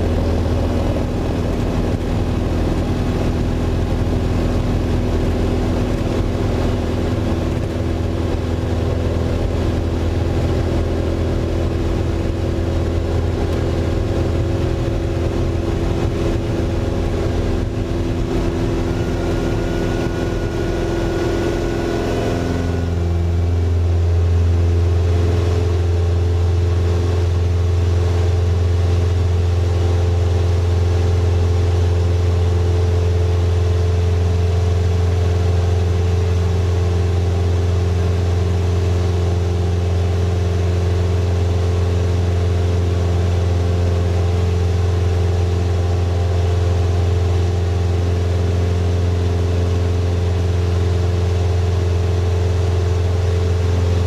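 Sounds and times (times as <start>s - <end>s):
floatplane engine and propeller: 0.0s - 54.0s.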